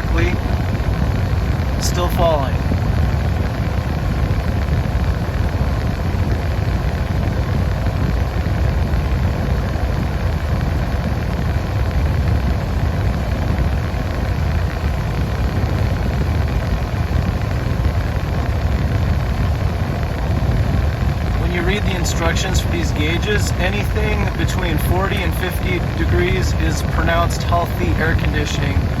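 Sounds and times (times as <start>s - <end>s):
car engine idling: 5.1s - 29.0s.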